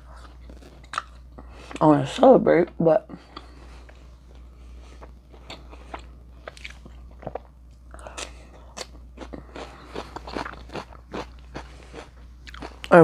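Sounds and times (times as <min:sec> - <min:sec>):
person chewing: 0:00.0 - 0:01.8, 0:03.2 - 0:13.0.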